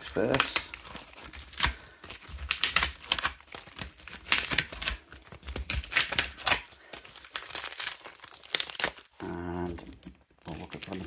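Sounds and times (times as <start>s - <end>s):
foil packets crinkling: 0.0s - 11.0s.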